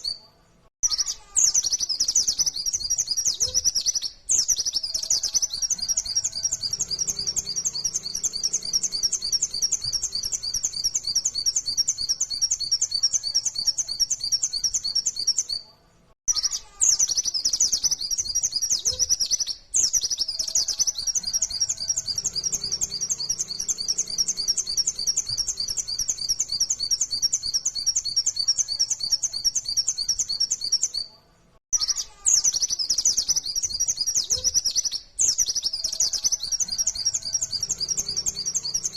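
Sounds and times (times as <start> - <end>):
white-eye bird twittering song: 0.8 - 15.6, 16.3 - 31.1, 31.8 - 38.9.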